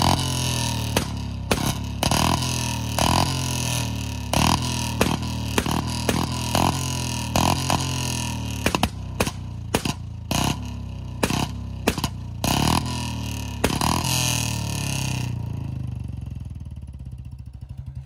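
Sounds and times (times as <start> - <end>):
exhaust backfire pops and bangs: 0.0 - 15.4
motorcycle engine revving: 0.0 - 18.0
motorcycle thumping idle: 0.0 - 18.0.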